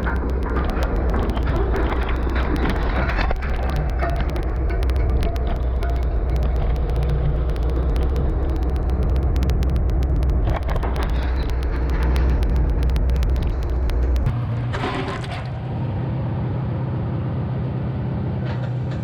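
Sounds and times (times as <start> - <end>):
sharp clicks and rattles: 0.0 - 15.6.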